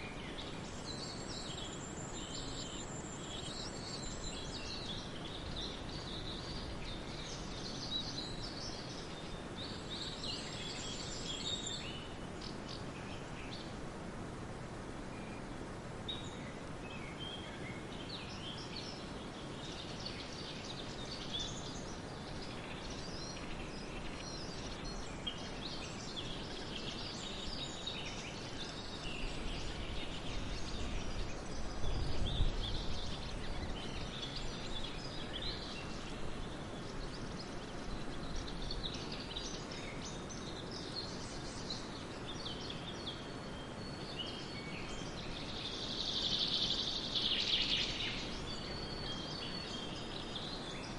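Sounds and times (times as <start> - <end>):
outdoor background noise: 0.0 - 50.9
small birds chirping: 0.0 - 50.9.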